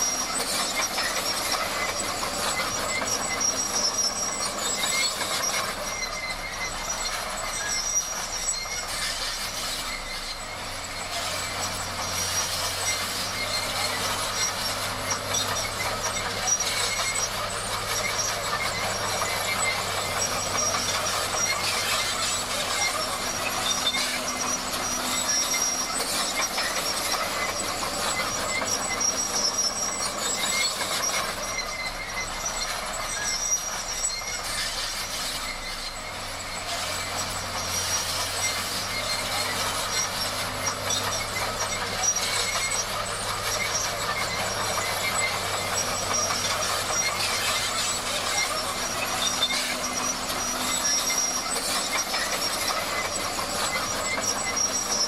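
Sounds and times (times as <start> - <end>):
bulldozer tracks squealing and clattering: 0.0 - 55.0
diesel engine running low: 0.0 - 55.0.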